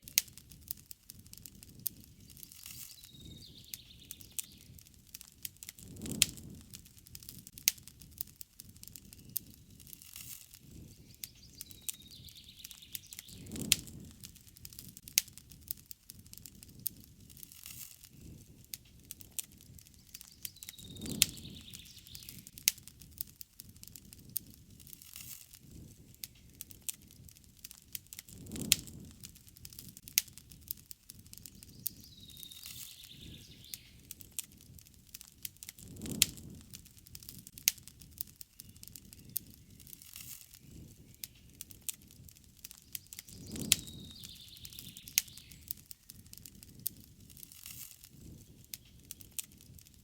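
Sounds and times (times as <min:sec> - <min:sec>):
campfire crackling and popping: 0:00.0 - 0:50.0
low rumble of flames: 0:00.0 - 0:50.0.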